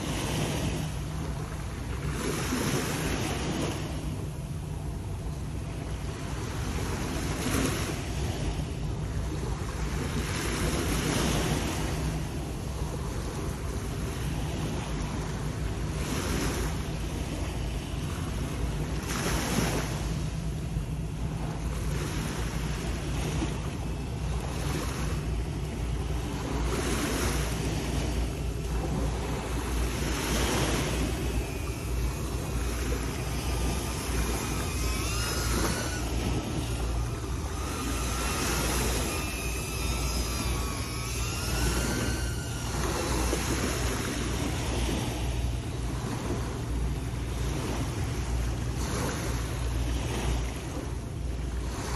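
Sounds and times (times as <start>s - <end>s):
faint wavering whine: 0.0s - 51.9s
surf washing against rocks: 0.0s - 51.9s
wind rumble on microphone: 0.0s - 51.9s.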